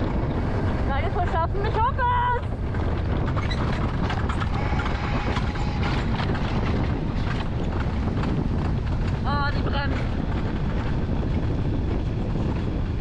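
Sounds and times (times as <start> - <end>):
coaster sled rumbling on rails: 0.0 - 13.0.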